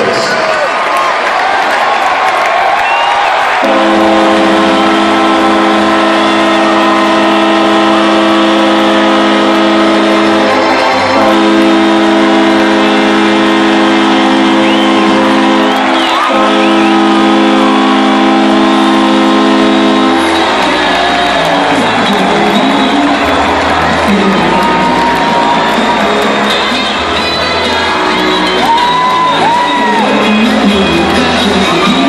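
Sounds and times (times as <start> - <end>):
crowd cheering: 0.0 - 32.0
arena horn blasts: 3.5 - 32.0.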